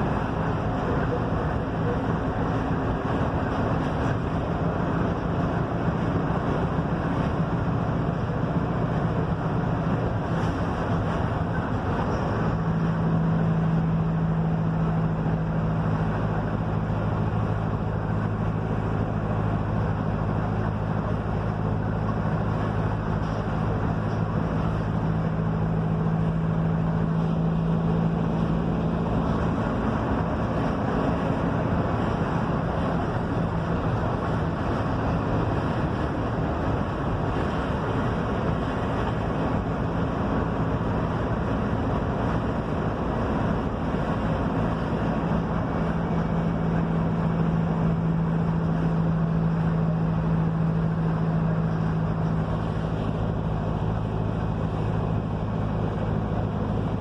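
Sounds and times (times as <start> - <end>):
bus diesel engine running: 0.0 - 57.0
road and tyre noise: 0.0 - 57.0.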